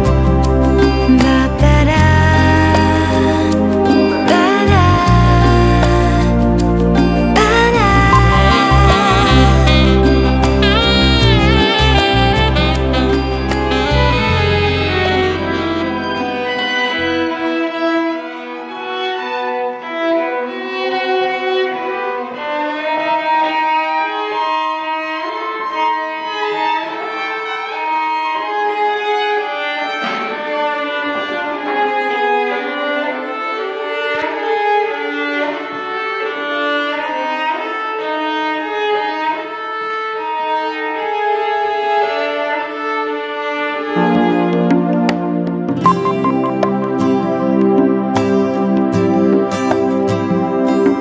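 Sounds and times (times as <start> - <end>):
violin playing classical melody: 6.0 - 48.0.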